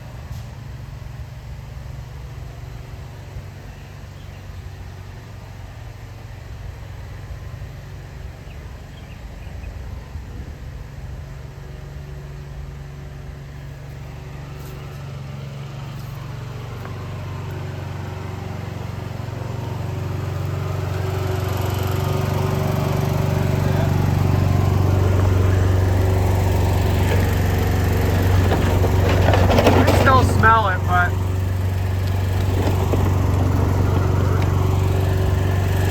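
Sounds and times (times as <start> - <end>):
riding mower engine running: 0.0 - 35.9.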